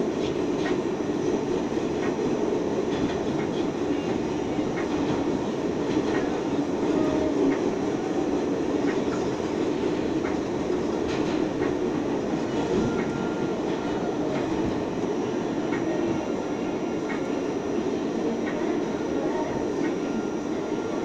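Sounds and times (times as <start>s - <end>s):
subway car rumbling in tunnel: 0.0s - 21.0s.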